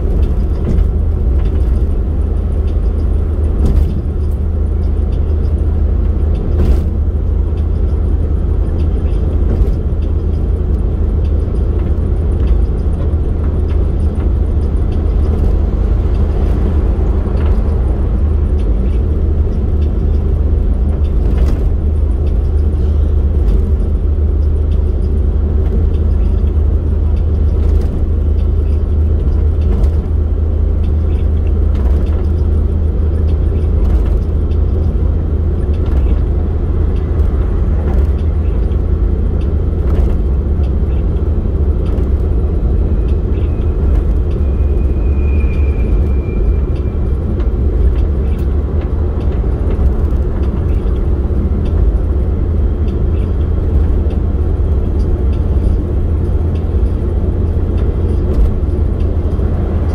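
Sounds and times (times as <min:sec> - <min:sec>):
vehicle road rumble: 0:00.0 - 0:59.9.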